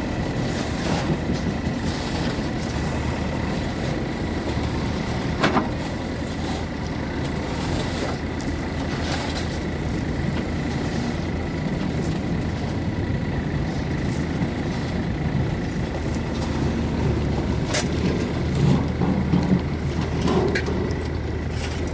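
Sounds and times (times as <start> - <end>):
backhoe digging gravel: 0.0 - 21.9
diesel engine running: 0.0 - 21.9.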